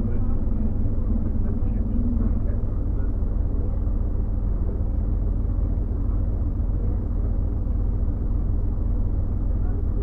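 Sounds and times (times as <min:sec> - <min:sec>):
bus diesel engine droning: 0:00.0 - 0:10.0.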